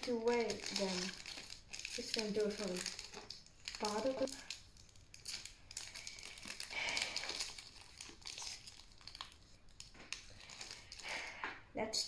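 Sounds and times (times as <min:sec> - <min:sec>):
foil wrapper crinkling: 0:00.0 - 0:11.4.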